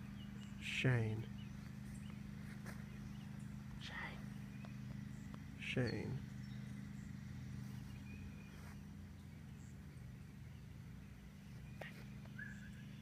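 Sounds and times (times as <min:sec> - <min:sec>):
steady low hum: 0:00.0 - 0:13.0
high bird chirps: 0:01.2 - 0:13.0.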